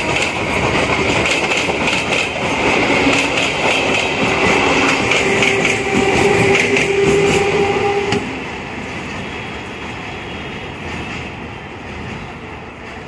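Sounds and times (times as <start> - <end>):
electric train rattling past: 0.0 - 13.0.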